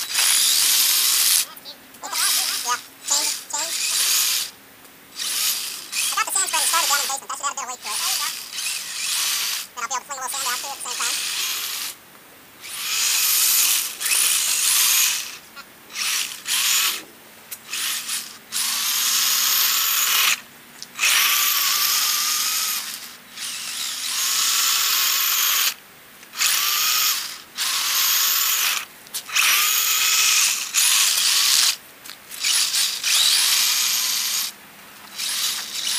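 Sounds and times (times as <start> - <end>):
electric motor and gears whining: 0.0 - 12.0, 12.6 - 35.9.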